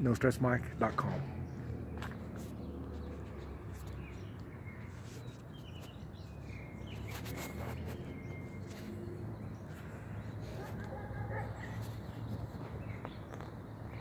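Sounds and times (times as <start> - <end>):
bird chirps: 1.4 - 14.0.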